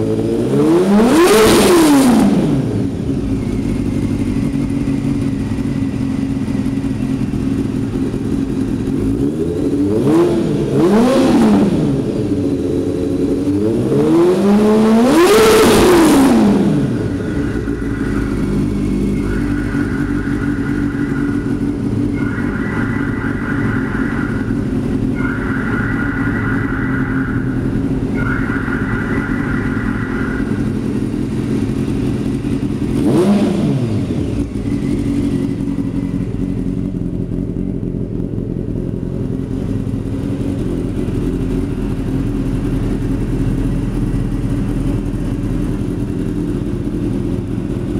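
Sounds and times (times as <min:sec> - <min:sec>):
motorcycle engine idling and revving: 0:00.0 - 0:47.9.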